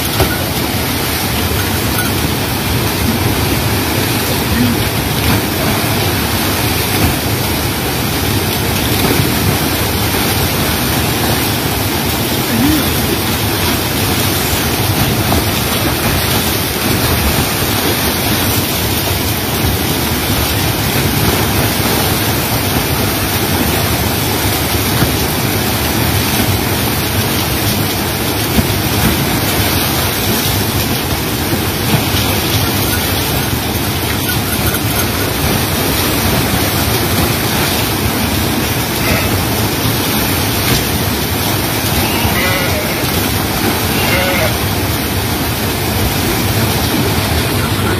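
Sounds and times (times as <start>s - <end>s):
water rushing over waterfall: 0.0s - 47.9s.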